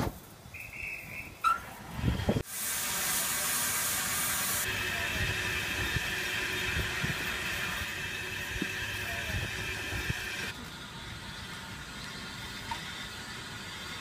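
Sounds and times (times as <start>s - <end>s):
steam locomotive hissing: 1.8s - 14.0s.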